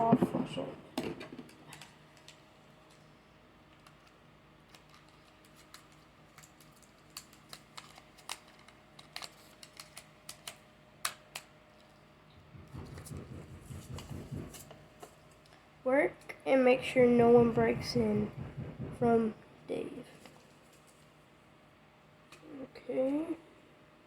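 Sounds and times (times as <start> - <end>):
electric fan hum: 0.0 - 24.0.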